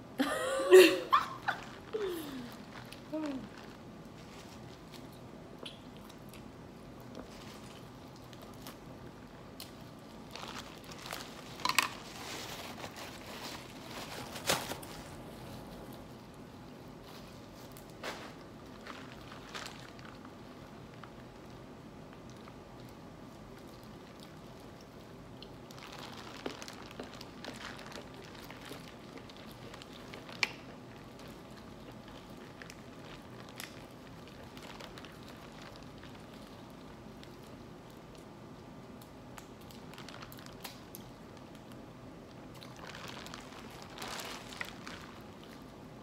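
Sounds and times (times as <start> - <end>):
low room hum: 0.0 - 46.0
plastic bag crinkling: 0.7 - 5.3, 6.9 - 16.2, 16.9 - 21.6, 23.4 - 38.2, 39.6 - 46.0.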